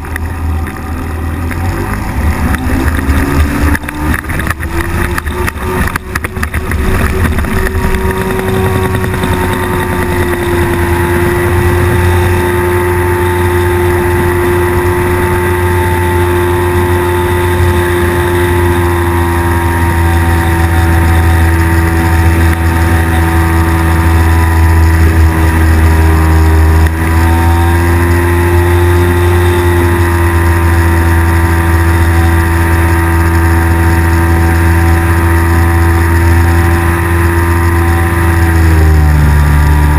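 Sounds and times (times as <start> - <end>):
microlight engine drone: 0.0 - 39.9.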